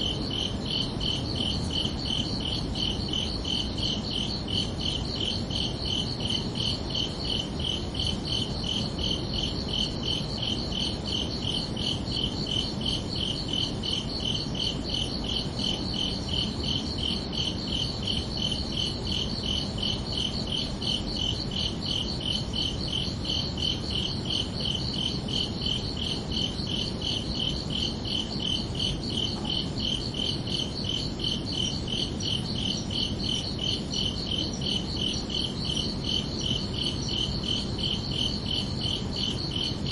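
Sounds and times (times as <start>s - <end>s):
crickets chirping: 0.0s - 39.9s
low background hiss: 0.0s - 39.9s.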